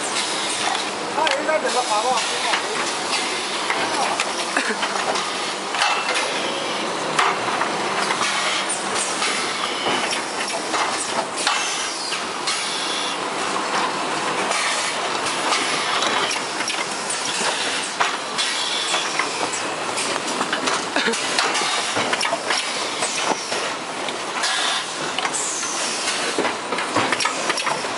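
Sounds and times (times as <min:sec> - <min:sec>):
conveyor rollers clicking and knocking: 0:00.0 - 0:27.9
packaging machinery clattering: 0:00.0 - 0:27.9.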